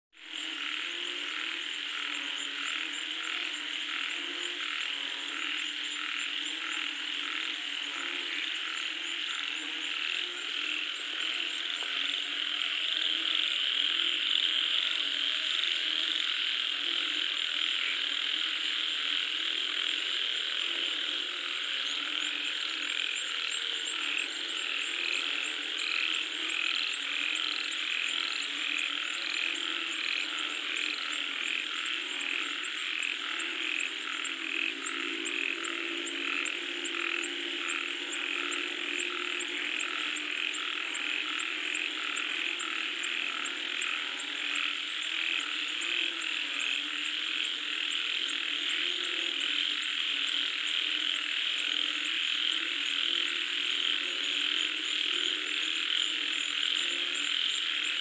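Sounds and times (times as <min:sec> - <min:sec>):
frog pulsing call: 0:00.2 - 0:58.0
frogs croaking: 0:00.2 - 0:58.0.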